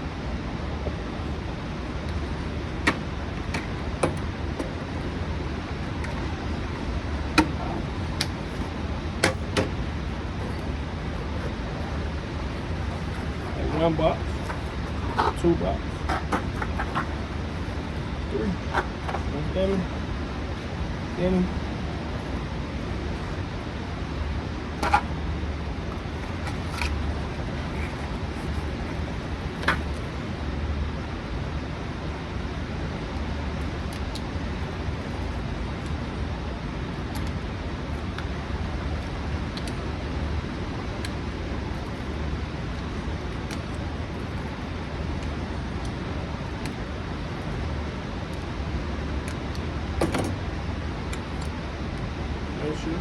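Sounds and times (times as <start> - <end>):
low rumbling background noise: 0.0 - 53.0.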